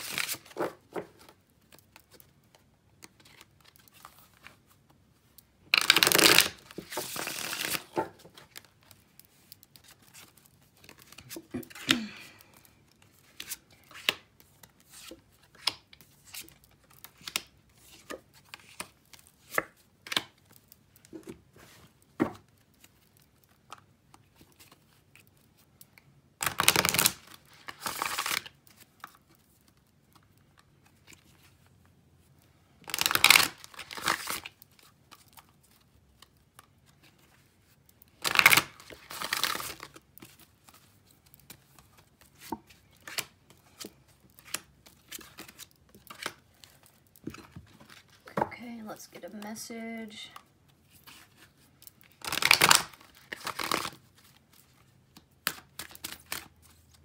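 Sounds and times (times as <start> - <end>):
cards being shuffled: 0.0 - 5.0, 5.7 - 25.6, 26.4 - 31.7, 32.9 - 48.4, 50.4 - 57.0.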